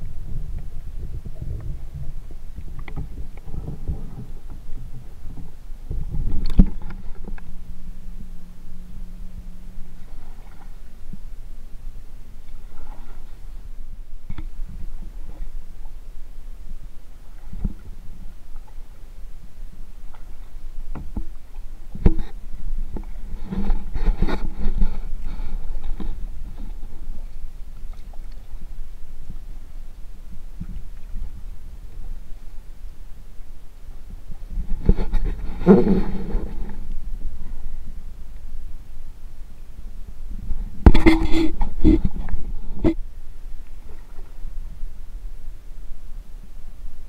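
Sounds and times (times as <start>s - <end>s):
faint low hum: 0.0s - 47.0s
kayak paddling water: 0.0s - 47.0s
muffled underwater rumbling: 0.0s - 47.0s.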